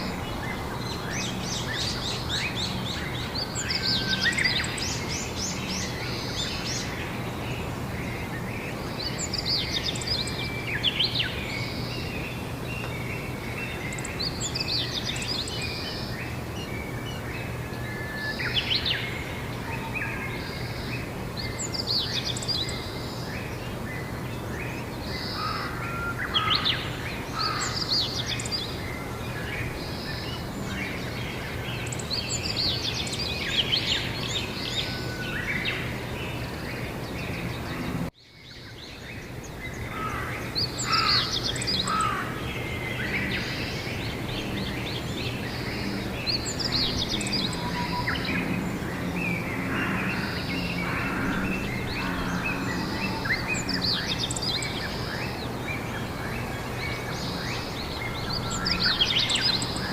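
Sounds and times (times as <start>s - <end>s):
low outdoor hum: 0.0s - 59.9s
songbirds singing: 0.0s - 59.9s.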